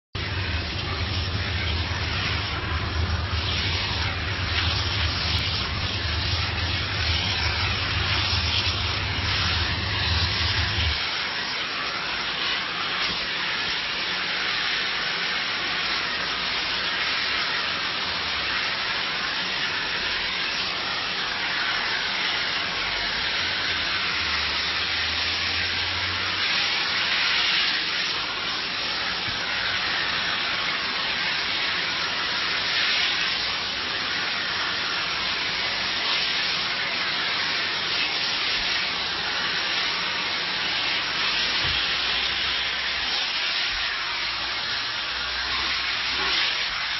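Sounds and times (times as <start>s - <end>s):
steam cleaner hissing: 0.2s - 46.9s.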